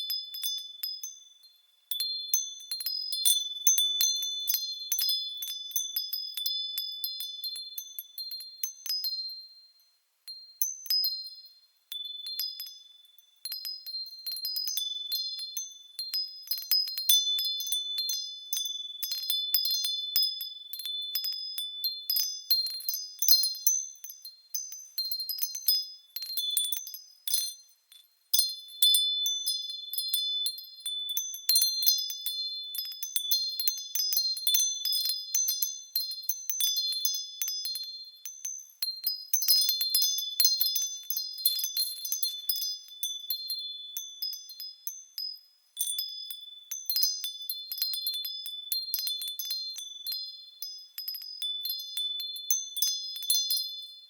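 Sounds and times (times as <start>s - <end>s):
wind chimes ringing: 10.3s - 54.0s.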